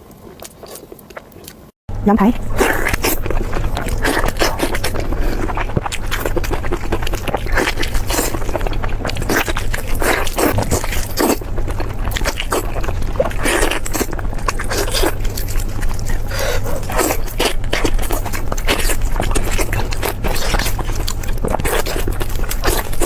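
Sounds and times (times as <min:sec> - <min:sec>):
crunchy biting and chewing: 0:00.0 - 0:01.7, 0:02.3 - 0:23.0
steady low hum: 0:01.9 - 0:23.0.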